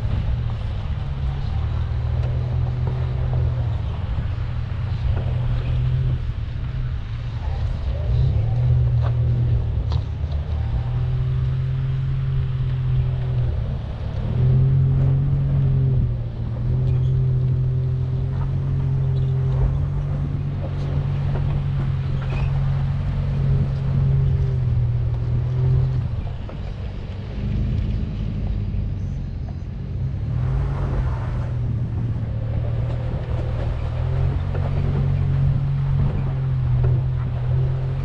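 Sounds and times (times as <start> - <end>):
truck engine at low revs: 0.0 - 38.0.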